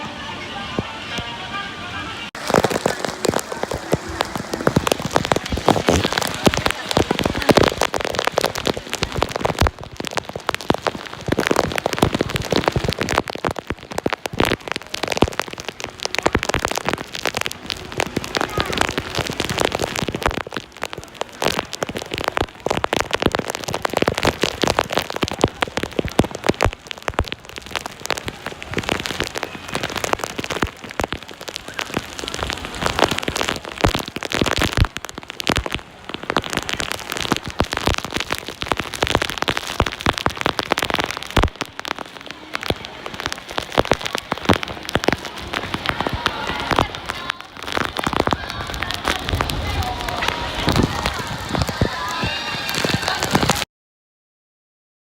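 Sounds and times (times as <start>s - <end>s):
heavy rain patter: 0.0s - 53.7s.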